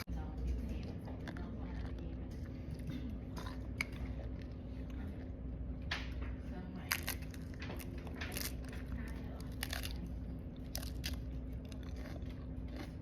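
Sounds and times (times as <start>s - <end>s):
steady low hum: 0.0s - 13.0s
person chewing crunchy food: 0.9s - 5.4s, 6.9s - 13.0s.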